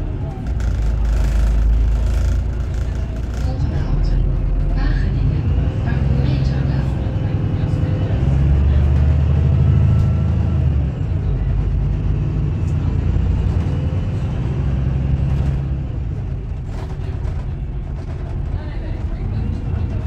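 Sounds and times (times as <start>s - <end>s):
bus engine drone from inside: 0.0s - 20.0s.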